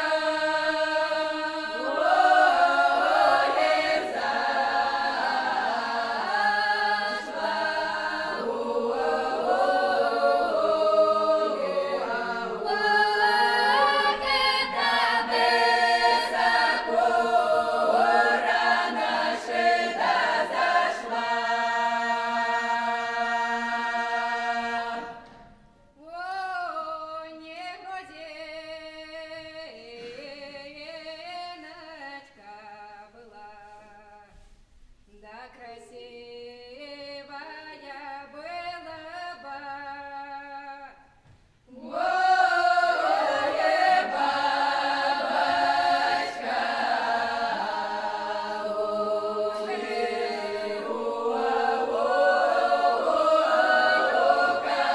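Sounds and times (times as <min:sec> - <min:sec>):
folk choir singing a cappella: 0:00.0 - 0:34.5, 0:35.3 - 0:54.9
soft singing with sliding pitches: 0:00.0 - 0:54.9.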